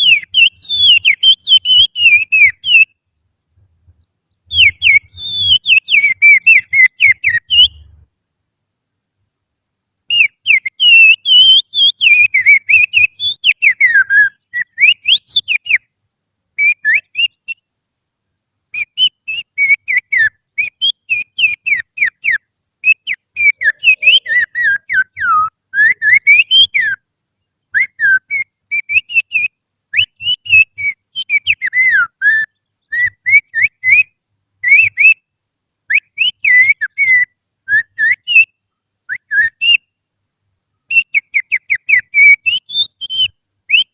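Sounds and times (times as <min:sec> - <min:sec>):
finger whistling birdsong imitation: 0:00.0 - 0:03.0, 0:04.5 - 0:07.9, 0:10.1 - 0:15.9, 0:16.6 - 0:17.7, 0:18.7 - 0:27.0, 0:27.7 - 0:35.3, 0:35.9 - 0:40.0, 0:40.9 - 0:43.9.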